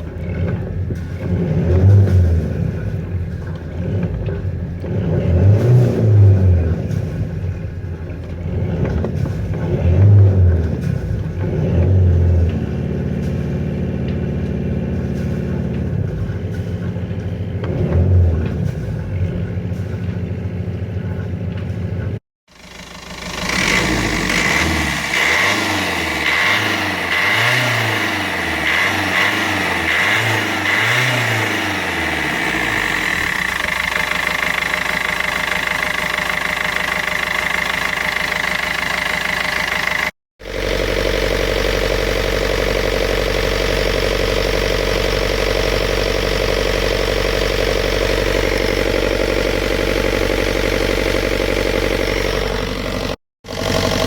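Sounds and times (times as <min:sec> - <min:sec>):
diesel boat engine revving: 0:00.0 - 0:54.0.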